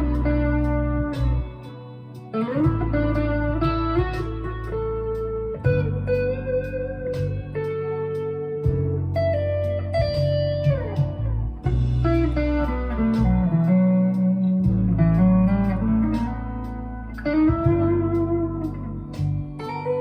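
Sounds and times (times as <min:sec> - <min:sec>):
overdriven electric guitar lead: 0:00.0 - 0:20.0.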